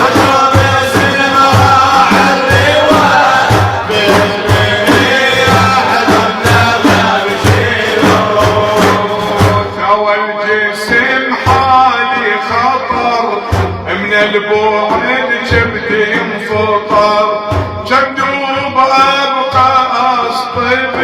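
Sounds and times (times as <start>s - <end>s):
steady struck drum beat: 0.0s - 10.1s, 10.8s - 21.0s
men chanting in unison: 0.0s - 21.0s.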